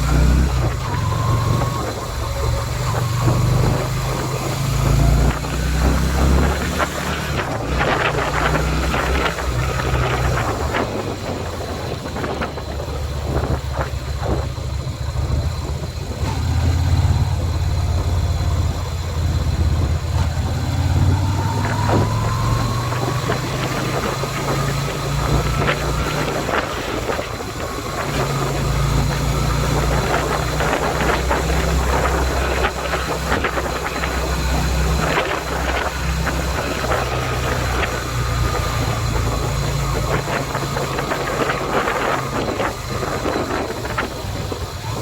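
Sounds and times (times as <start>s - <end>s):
motorcycle engine running: 0.0s - 45.0s
wind noise on microphone: 0.0s - 45.0s.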